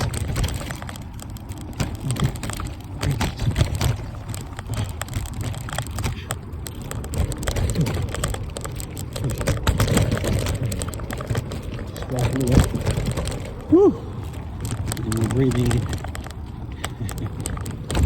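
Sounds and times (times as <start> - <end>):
bike rattling over bumps: 0.0 - 18.0.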